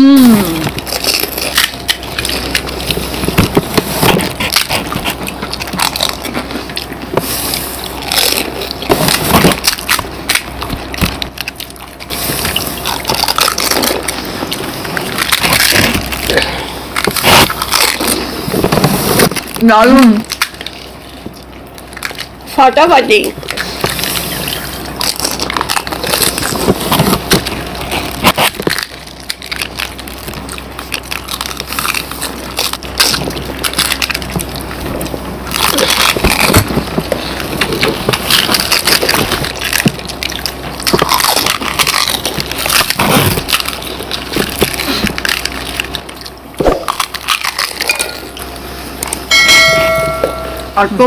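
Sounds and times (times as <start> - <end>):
chewing: 0.0 - 22.6, 23.2 - 50.8
crisp shells crunching: 0.0 - 51.0.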